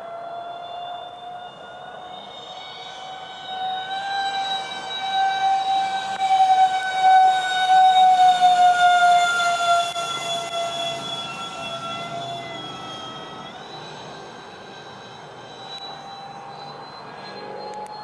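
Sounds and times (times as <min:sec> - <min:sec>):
model jet fans whining: 0:00.0 - 0:18.0.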